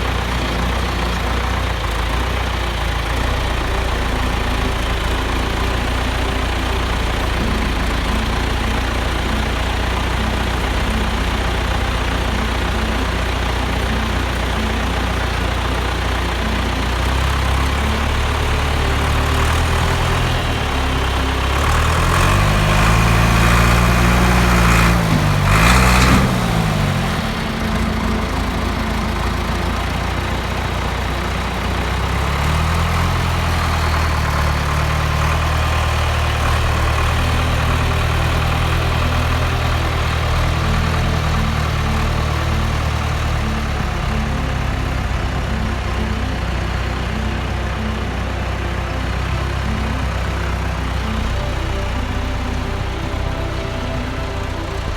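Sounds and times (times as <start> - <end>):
engine running and revving: 0.0 - 54.9.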